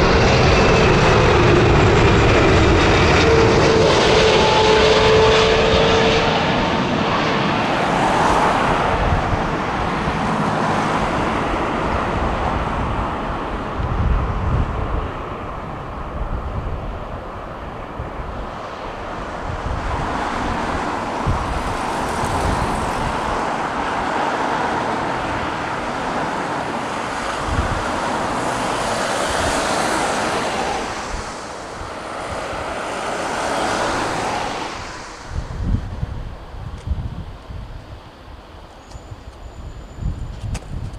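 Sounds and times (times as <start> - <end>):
jet engine roar: 0.0 - 40.9
wind rumbling on microphone: 0.0 - 40.9.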